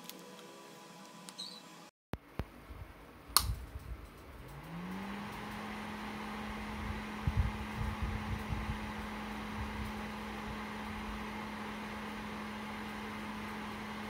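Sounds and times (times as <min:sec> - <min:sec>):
cooling fan humming: 0:02.2 - 0:14.0.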